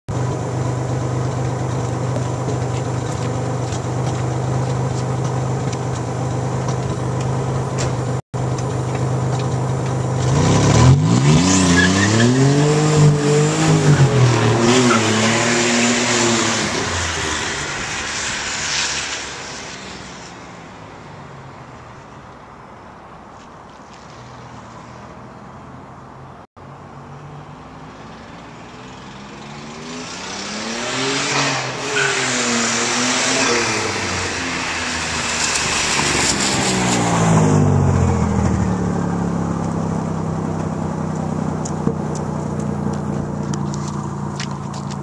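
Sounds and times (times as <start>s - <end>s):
wheels spinning on wet pavement: 0.1s - 22.1s, 27.6s - 45.0s
car engine idling and revving: 0.1s - 45.0s.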